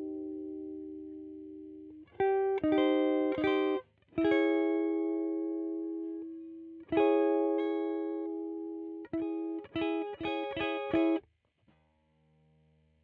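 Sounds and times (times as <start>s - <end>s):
electric guitar strumming chords: 0.0s - 11.2s.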